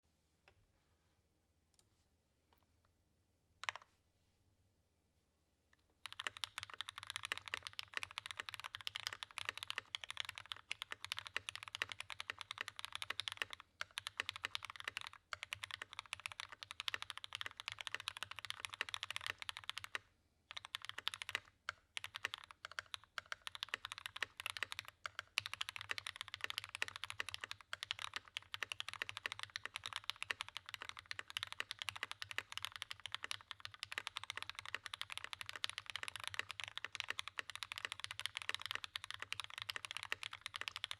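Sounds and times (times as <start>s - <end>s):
typing on mechanical keyboard: 3.6s - 3.9s, 6.0s - 40.9s.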